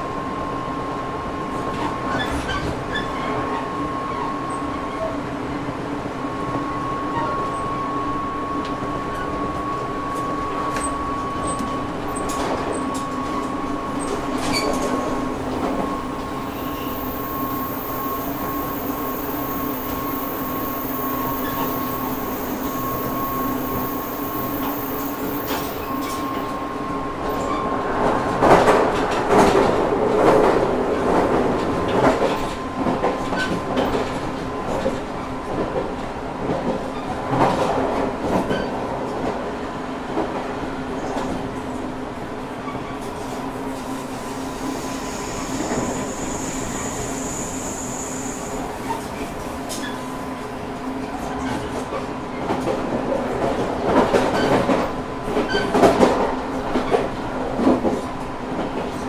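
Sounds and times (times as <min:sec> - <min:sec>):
train running hum: 0:00.0 - 0:59.0.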